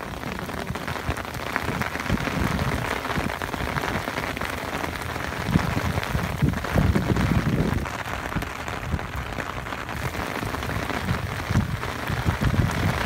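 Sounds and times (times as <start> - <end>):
rain falling: 0.0 - 13.0
raindrops ticking: 0.0 - 13.0.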